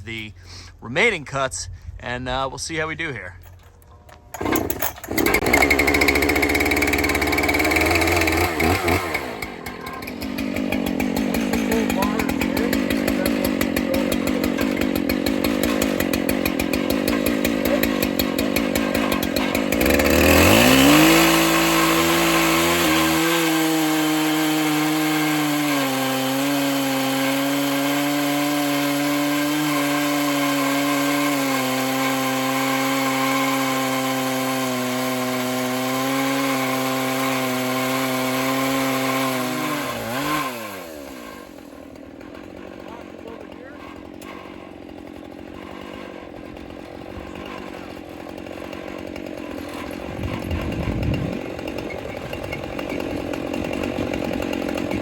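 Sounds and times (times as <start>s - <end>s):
chainsaw cutting log: 0.0s - 1.2s, 3.2s - 55.0s.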